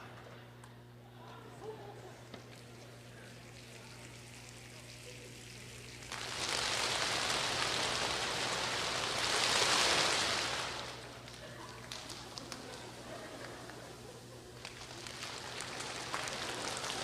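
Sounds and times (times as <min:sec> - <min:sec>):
many hands clapping like rain: 0:03.3 - 0:17.0.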